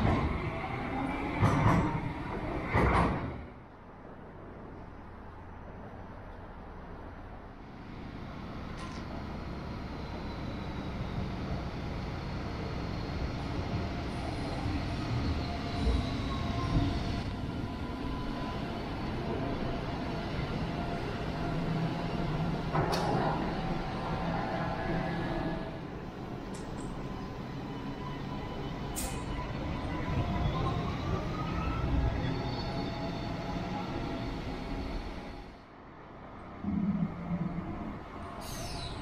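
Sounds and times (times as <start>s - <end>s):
tram running: 0.0s - 39.0s.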